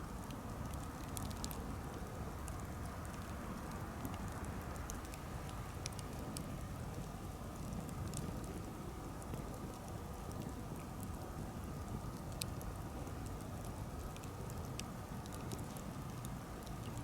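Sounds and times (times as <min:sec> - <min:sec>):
fire low rumble: 0:00.0 - 0:17.0
wood crackling and popping: 0:00.0 - 0:17.0.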